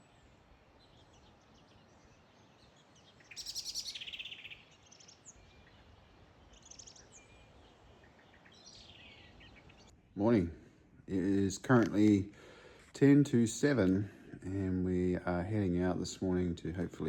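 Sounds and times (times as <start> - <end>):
low background hiss: 0.0 - 17.0
songbirds singing: 0.0 - 17.0.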